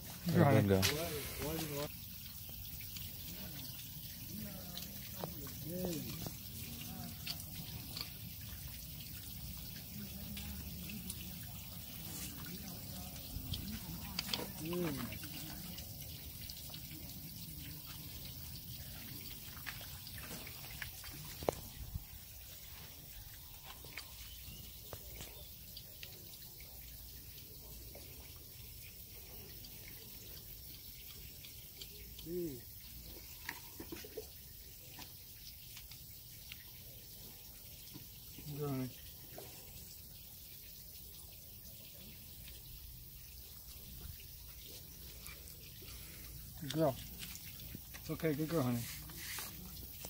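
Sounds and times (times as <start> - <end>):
water trickling: 0.0 - 50.0.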